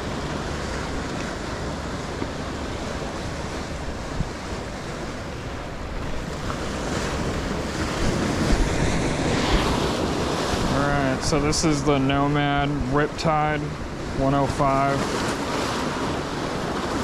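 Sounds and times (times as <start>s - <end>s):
ocean waves washing ashore: 0.0s - 17.0s
wind buffeting microphone: 0.0s - 17.0s.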